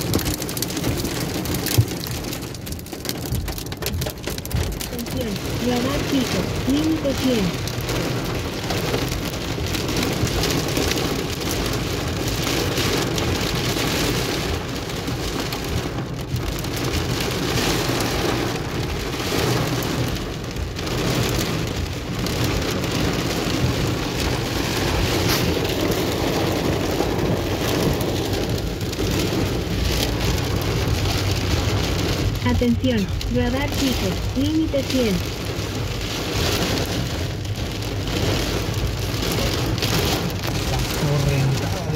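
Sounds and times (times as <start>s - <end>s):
rain and hail on car roof: 0.0s - 41.9s.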